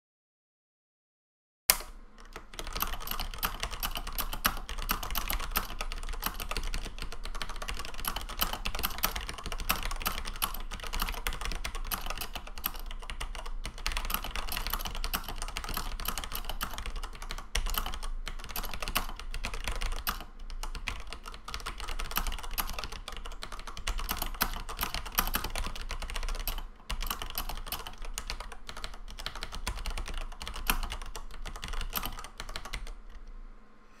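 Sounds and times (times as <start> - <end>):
fast typing on a keyboard: 1.7 - 33.2.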